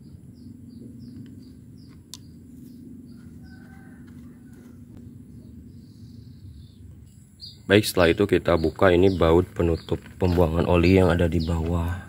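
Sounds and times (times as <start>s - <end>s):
birds chirping: 0.0s - 12.0s
low hum: 0.0s - 12.0s.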